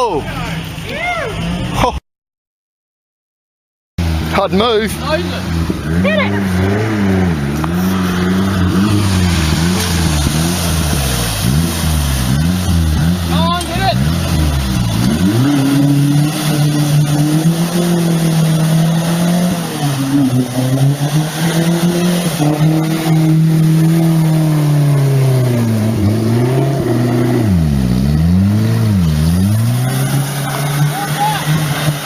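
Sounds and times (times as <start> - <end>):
vehicle engine running: 4.0 - 32.0.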